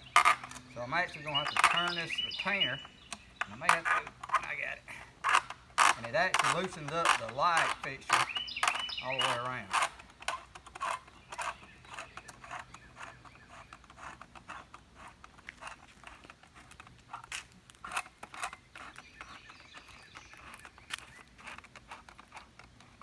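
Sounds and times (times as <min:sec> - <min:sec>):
hands clicking and scraping a clip: 0:00.0 - 0:23.0.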